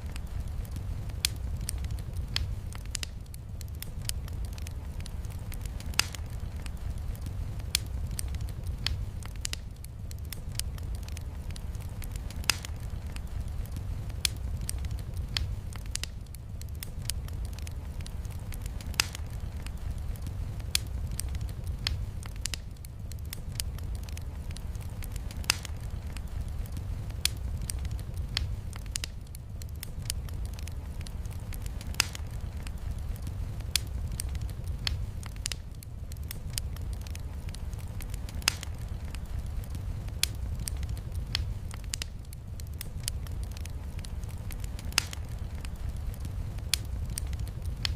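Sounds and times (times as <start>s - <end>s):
low rumble of burning logs: 0.0s - 47.9s
rain: 0.0s - 47.9s
wood fire crackling and popping: 0.0s - 47.9s.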